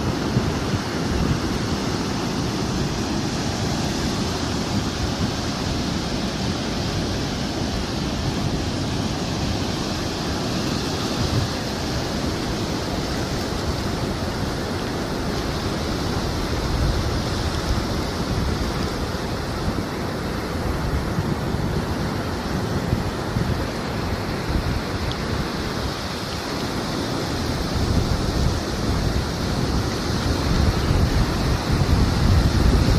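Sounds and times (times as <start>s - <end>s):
ocean surf breaking: 0.0s - 32.9s
wind buffeting microphone: 0.0s - 32.9s.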